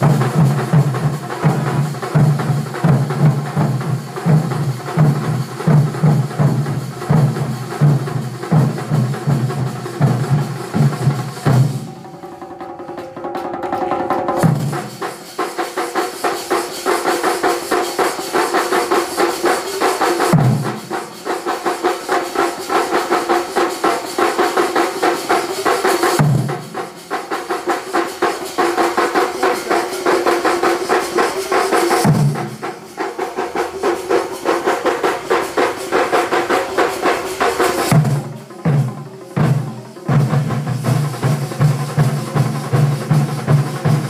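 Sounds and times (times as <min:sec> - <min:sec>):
drum band playing: 0:00.0 - 0:44.0.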